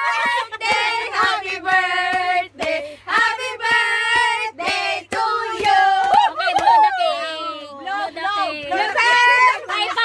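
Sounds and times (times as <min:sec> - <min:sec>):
women singing together: 0:00.0 - 0:10.0.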